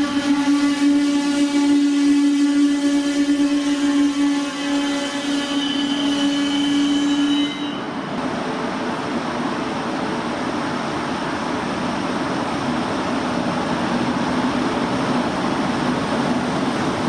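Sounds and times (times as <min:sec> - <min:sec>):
train hum: 0:00.0 - 0:17.0.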